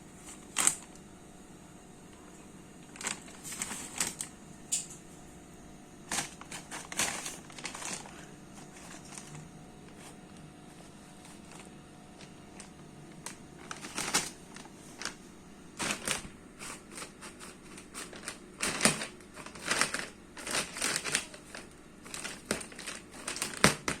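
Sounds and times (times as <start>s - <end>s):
crinkling and crunching: 0.1s - 1.0s, 2.8s - 5.0s, 6.0s - 24.0s.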